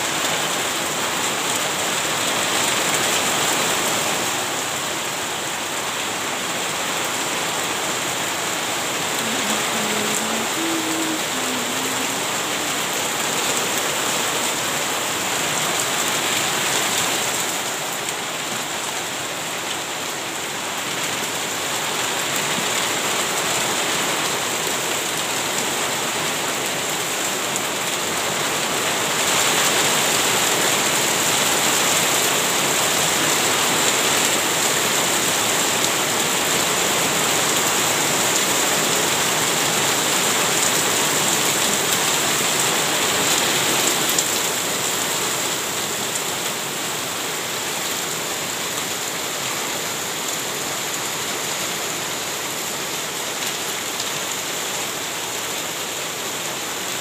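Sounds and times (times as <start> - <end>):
rain falling on plants: 0.0 - 57.0.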